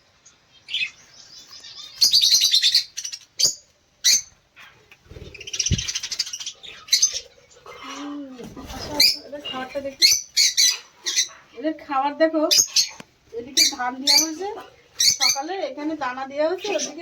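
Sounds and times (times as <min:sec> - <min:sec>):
budgerigars chirping and chattering: 0:00.2 - 0:17.0.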